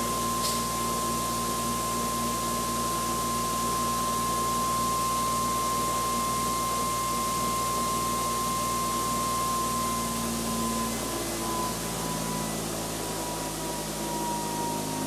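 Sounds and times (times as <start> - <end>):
generator whine: 0.0 - 15.0.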